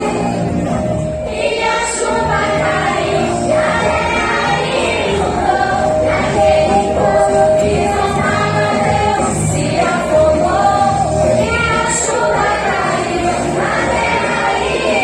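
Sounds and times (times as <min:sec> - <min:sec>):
choir singing music: 0:00.0 - 0:15.0.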